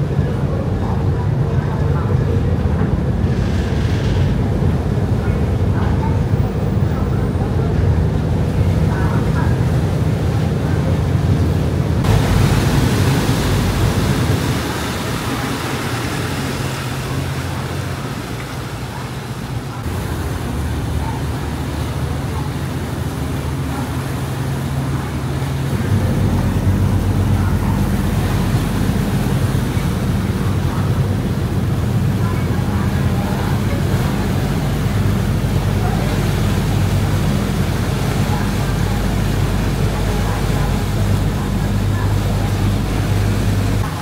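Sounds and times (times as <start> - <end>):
ferry diesel engines droning: 0.0 - 44.0
propellers churning water: 0.0 - 44.0.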